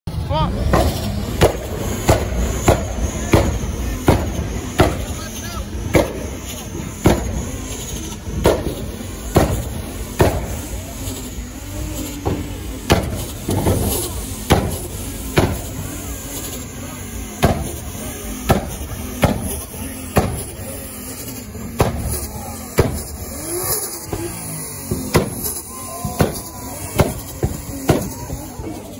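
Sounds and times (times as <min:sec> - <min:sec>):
car engine revving: 0:00.1 - 0:28.9
crowd voices: 0:00.1 - 0:28.9.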